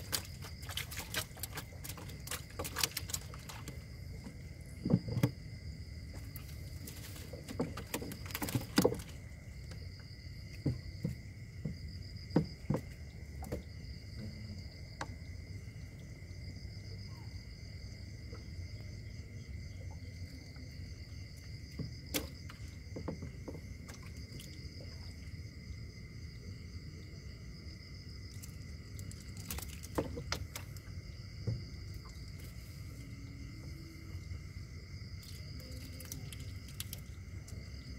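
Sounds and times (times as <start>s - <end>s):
knocks and splashes in water: 0.0s - 15.6s, 19.7s - 26.9s, 27.7s - 37.9s
night insects trilling: 0.0s - 37.9s.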